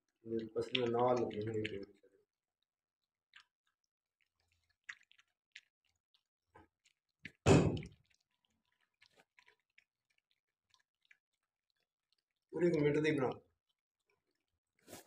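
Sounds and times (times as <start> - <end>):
dog lapping and chewing: 0.0 - 15.0.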